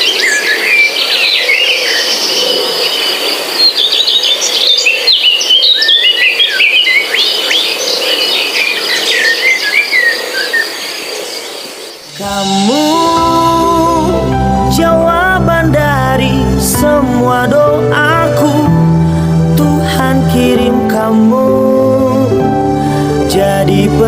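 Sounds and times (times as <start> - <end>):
birds chirping and whistling: 0.0 - 23.9.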